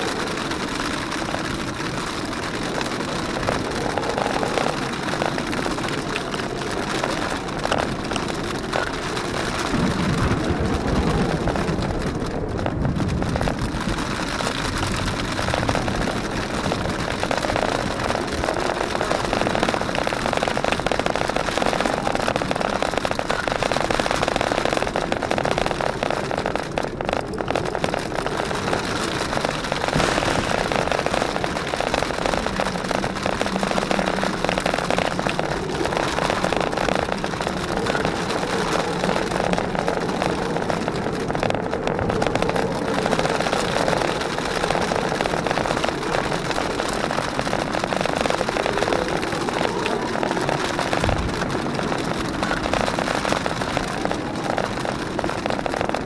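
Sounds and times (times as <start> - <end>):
crackle and rattle in cabin: 0.0 - 56.0
low engine drone: 0.0 - 56.0.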